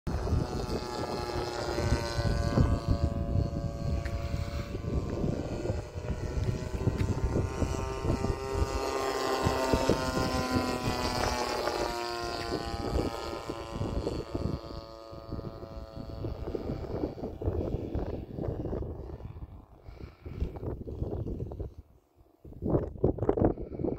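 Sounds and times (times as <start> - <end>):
model airplane motor buzzing: 0.1 - 23.9
wind buffeting microphone: 0.1 - 23.9.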